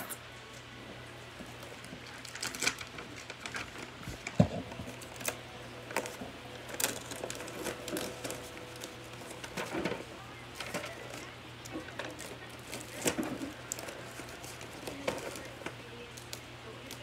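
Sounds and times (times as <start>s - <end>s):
paper rustling and crinkling: 1.4s - 17.0s.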